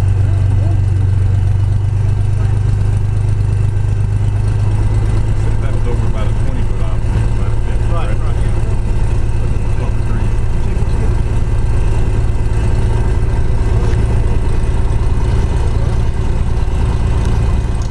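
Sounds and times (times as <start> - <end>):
propeller plane engine drone: 0.0 - 17.9.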